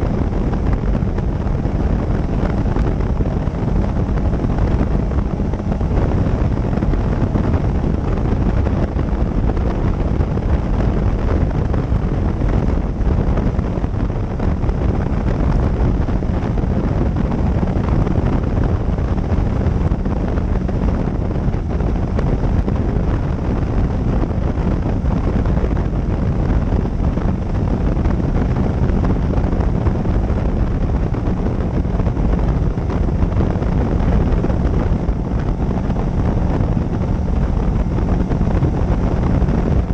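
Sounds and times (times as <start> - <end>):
motorcycle engine hum: 0.0 - 39.9
wind rushing on microphone: 0.0 - 39.9.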